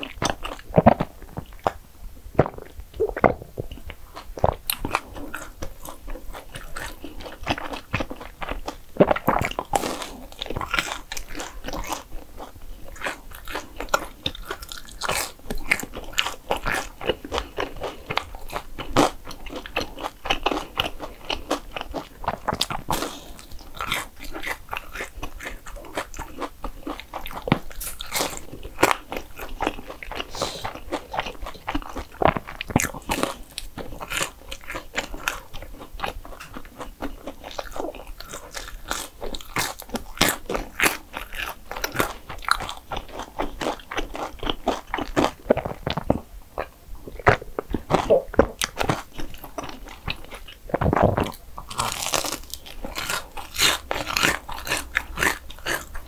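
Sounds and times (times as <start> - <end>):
person biting and chewing: 0.0 - 1.8, 2.4 - 56.0.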